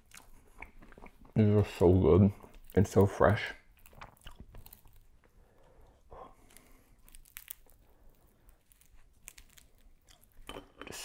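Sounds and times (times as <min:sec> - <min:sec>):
cheese crumbling crackles: 0:00.0 - 0:10.8.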